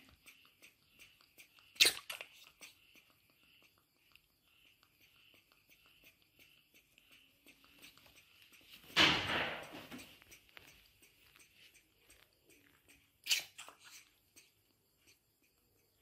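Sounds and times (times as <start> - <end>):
baby monkey suckling from bottle: 0.0 - 16.0.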